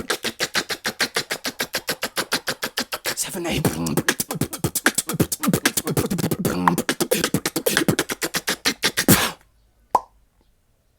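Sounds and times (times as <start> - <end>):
beatboxing: 0.0 - 9.4.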